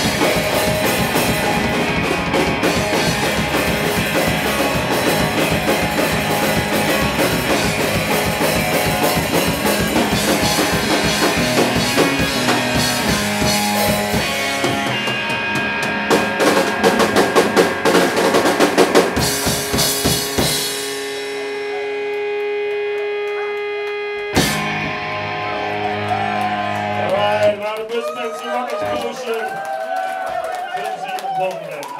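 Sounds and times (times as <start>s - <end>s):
drum kit: 0.0s - 27.6s
electric guitars: 0.0s - 27.9s
ringing guitar chord: 0.8s - 27.1s.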